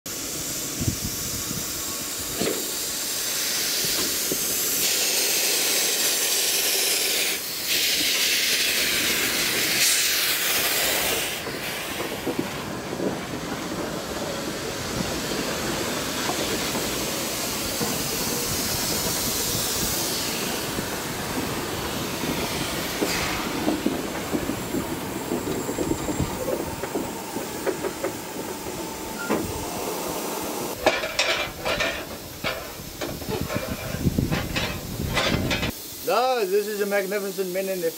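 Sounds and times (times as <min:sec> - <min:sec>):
steam locomotive hissing: 0:00.1 - 0:37.9.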